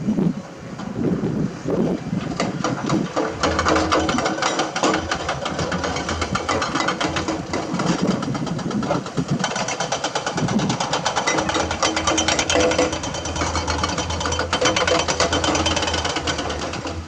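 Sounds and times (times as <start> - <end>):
diesel engine running: 0.6 - 17.0
fast clatter of knocks and clicks: 2.2 - 17.0.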